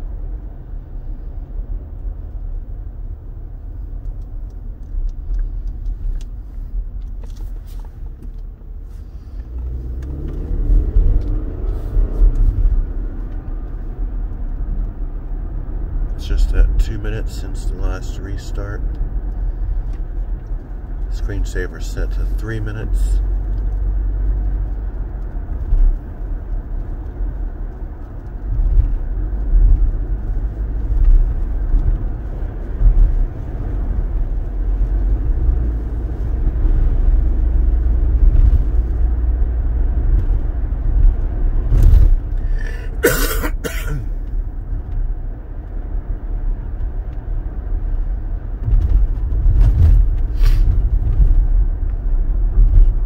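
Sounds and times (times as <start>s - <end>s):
car driving on wet road: 0.0s - 53.0s.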